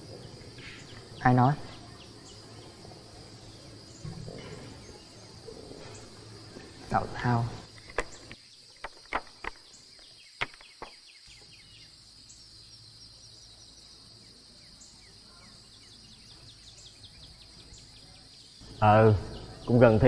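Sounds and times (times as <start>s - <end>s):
birds chirping: 0.0s - 20.0s
insects buzzing: 0.0s - 20.0s.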